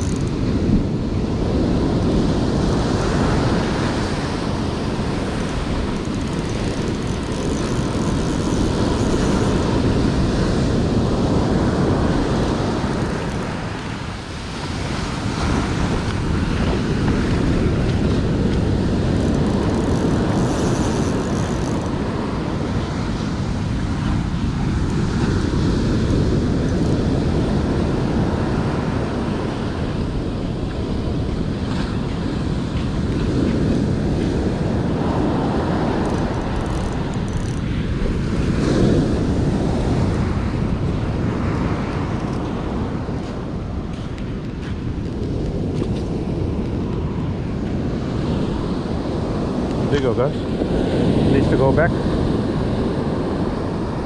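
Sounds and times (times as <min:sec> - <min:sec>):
surf breaking on beach: 0:00.0 - 0:54.0
wind on microphone: 0:00.0 - 0:54.0.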